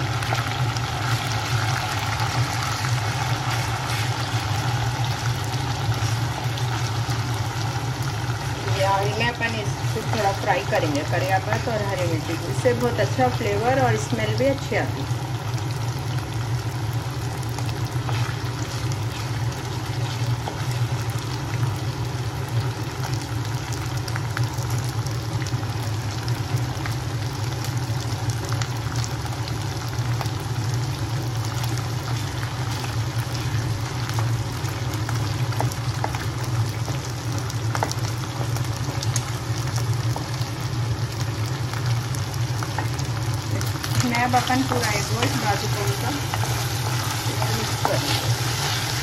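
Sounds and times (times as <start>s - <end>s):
hot oil sizzling and crackling: 0.0s - 49.0s
steady low hum: 0.0s - 49.0s.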